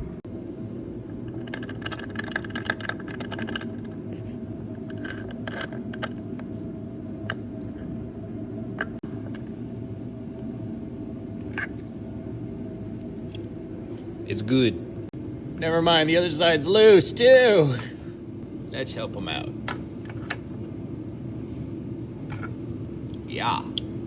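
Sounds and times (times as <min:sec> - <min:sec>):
low shop hum: 0:00.0 - 0:24.0.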